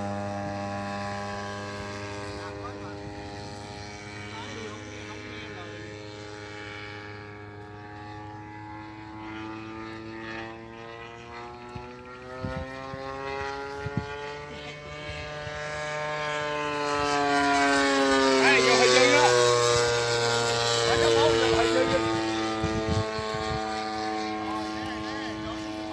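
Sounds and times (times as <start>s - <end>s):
model airplane engine buzzing: 0.0s - 25.9s.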